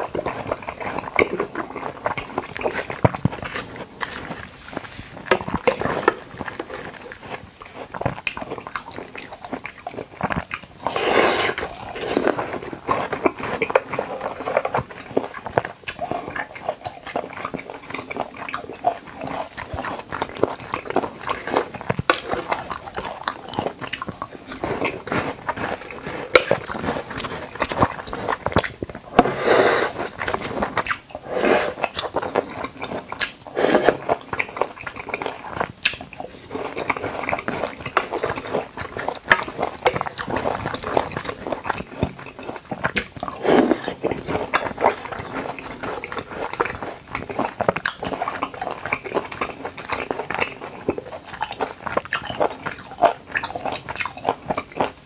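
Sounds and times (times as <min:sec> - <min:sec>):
man chewing wet food: 0:00.0 - 0:55.0.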